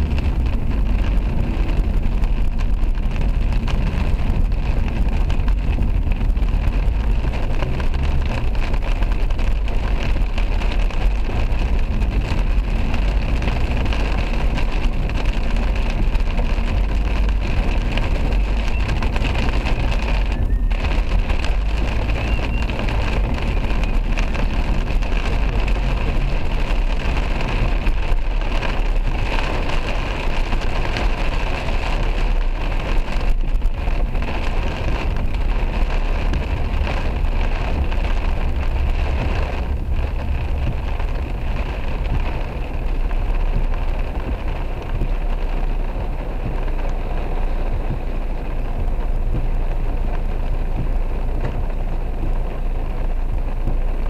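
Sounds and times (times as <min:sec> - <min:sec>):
car engine and tyres rumbling: 0:00.0 - 0:54.0
rain pelting a car roof: 0:00.0 - 0:54.0.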